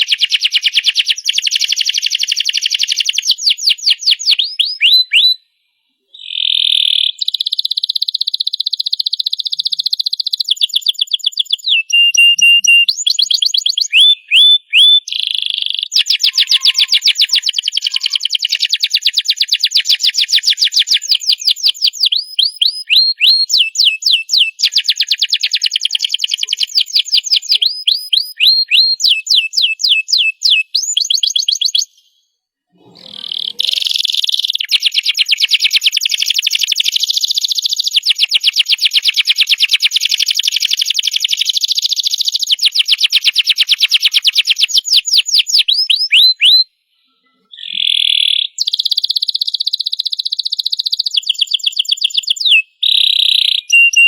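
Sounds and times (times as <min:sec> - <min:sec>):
canary singing trills: 0:00.0 - 0:05.4, 0:06.1 - 0:54.0.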